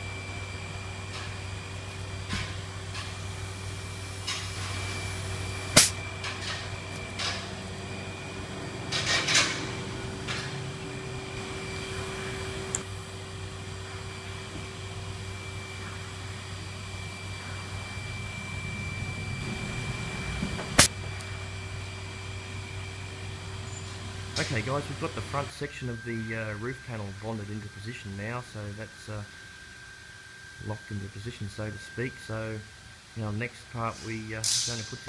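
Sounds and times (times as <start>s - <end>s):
low workshop hum: 0.0s - 35.0s.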